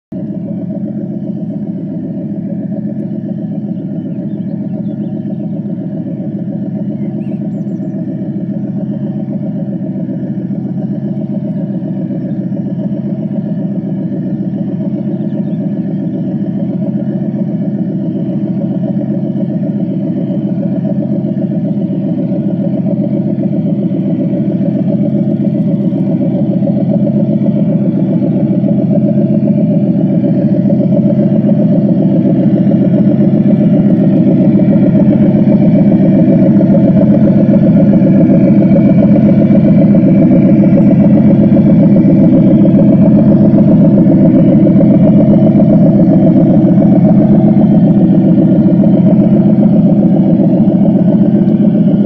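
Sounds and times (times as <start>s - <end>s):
model diesel locomotive running: 0.1s - 52.0s.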